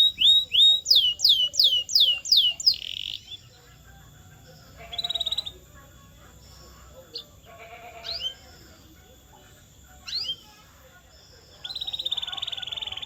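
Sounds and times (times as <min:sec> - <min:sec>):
canary chirping and trilling: 0:00.0 - 0:13.0.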